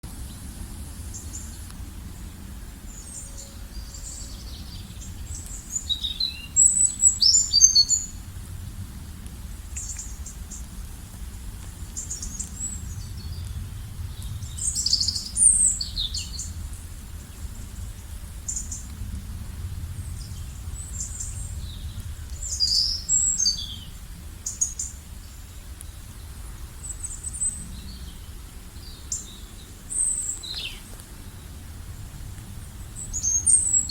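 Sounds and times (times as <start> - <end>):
low background rumble: 0.0 - 33.9
songbirds chirping and trilling: 0.2 - 33.9.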